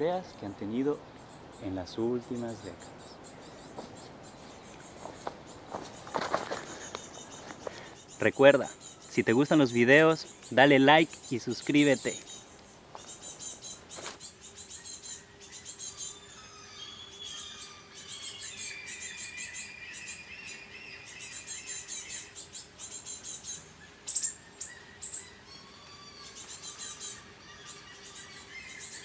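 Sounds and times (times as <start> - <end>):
birds chirping and trilling: 0.0 - 29.0.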